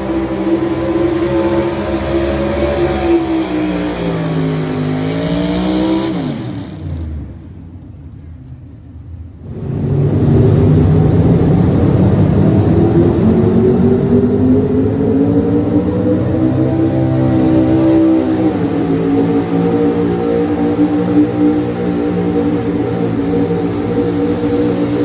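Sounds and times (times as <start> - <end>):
truck engine under hard throttle: 0.0 - 25.0.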